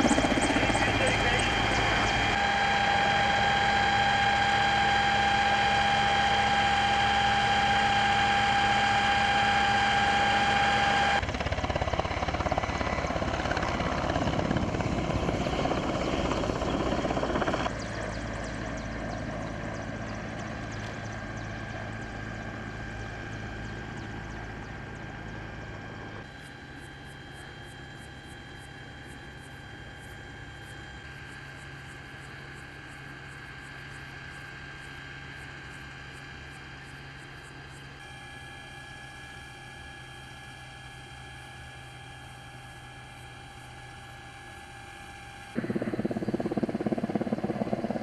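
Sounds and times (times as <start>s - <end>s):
helicopter drone: 0.0s - 48.0s.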